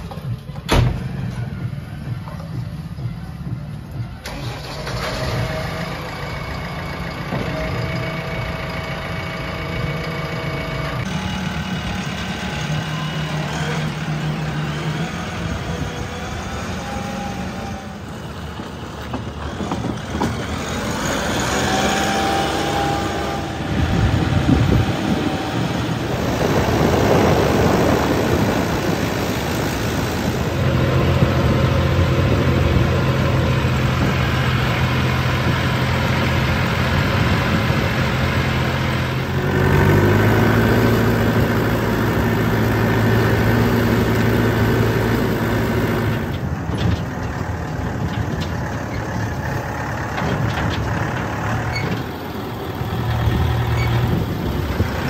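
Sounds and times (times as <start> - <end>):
backhoe diesel engine running: 0.0 - 55.0
tractor diesel engine: 0.0 - 55.0.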